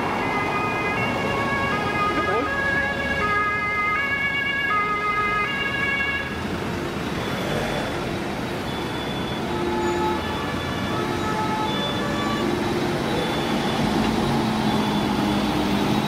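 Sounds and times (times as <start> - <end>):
two-tone sirens: 0.0 - 16.0
vehicle engine and tyre noise: 0.0 - 16.0.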